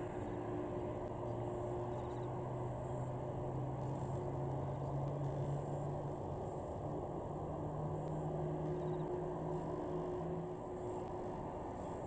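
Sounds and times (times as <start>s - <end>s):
distant jet engines rumbling: 0.0s - 12.0s
rising engine hum: 0.0s - 12.0s.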